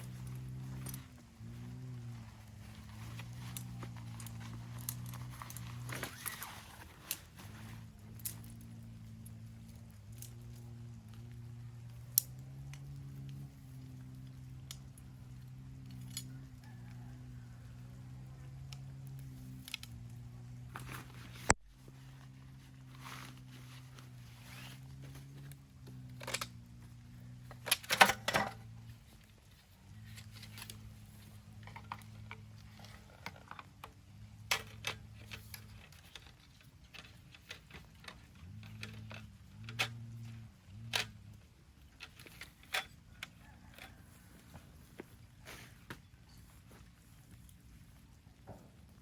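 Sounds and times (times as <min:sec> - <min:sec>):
clicks and knocks of handling: 0:00.0 - 0:17.4, 0:18.0 - 0:49.0.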